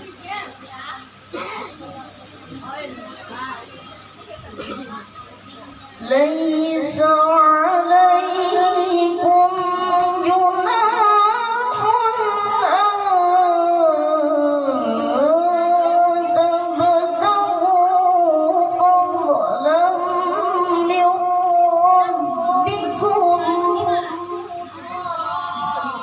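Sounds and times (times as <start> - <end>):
boy reciting melodically: 0.0 - 26.0.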